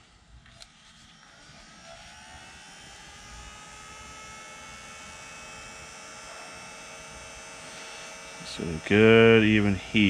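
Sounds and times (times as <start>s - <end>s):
heat gun fan whining: 0.0s - 10.0s.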